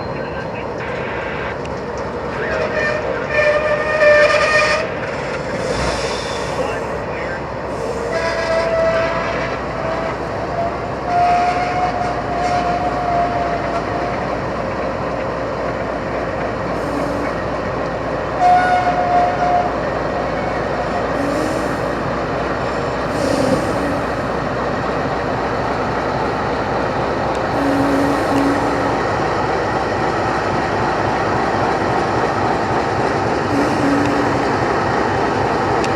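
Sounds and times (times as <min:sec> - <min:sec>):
freight train rolling by: 0:00.0 - 0:35.9.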